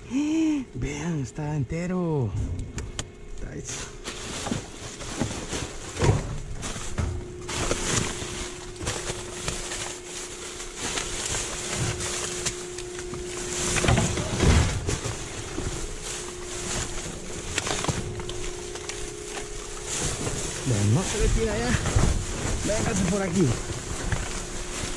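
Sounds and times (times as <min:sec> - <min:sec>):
steady low hum: 0:00.0 - 0:24.9
heavy thumps of bags moved: 0:02.4 - 0:24.9
plastic bags rustling and crinkling: 0:03.1 - 0:24.9.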